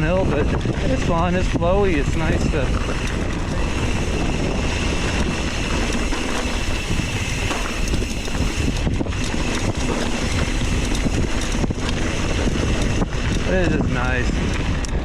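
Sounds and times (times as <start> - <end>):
mountain bike rumbling and rattling: 0.0 - 15.0
wind rushing over microphone: 0.0 - 15.0.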